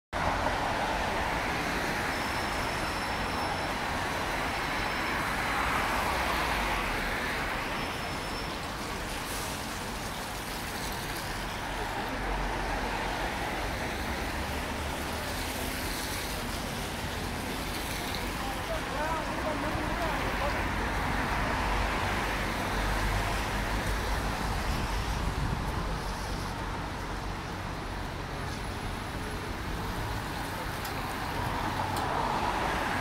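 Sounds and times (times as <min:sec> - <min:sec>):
road traffic engine rumble: 0:00.1 - 0:33.0
tyre hiss on wet road: 0:00.4 - 0:33.0.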